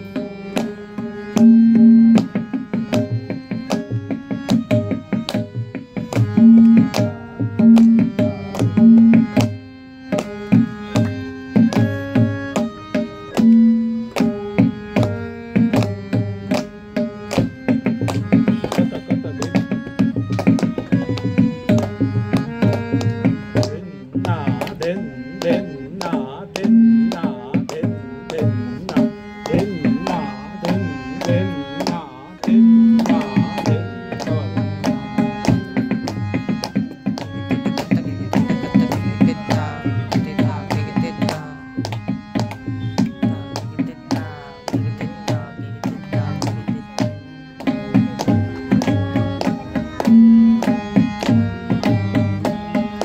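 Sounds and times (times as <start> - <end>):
fast tabla solo: 0.0 - 53.0
harmonium melody: 0.0 - 53.0.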